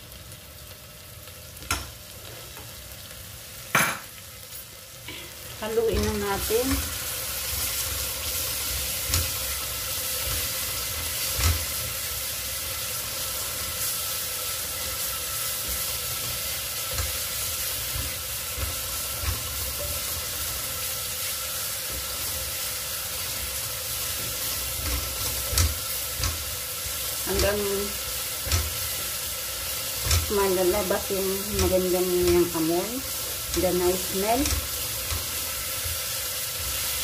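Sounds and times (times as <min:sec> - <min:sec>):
paste sizzling in a pot: 0:00.0 - 0:37.0.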